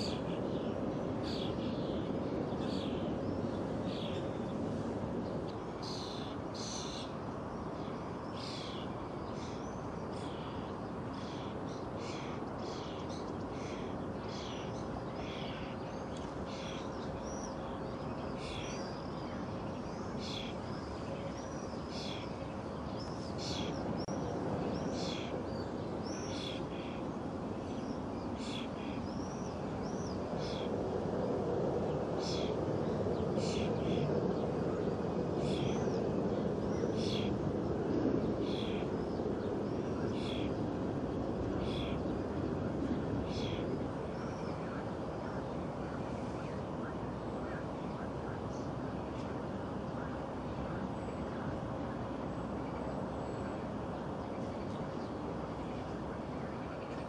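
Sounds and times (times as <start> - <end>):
outdoor background rush: 0.0 - 57.0.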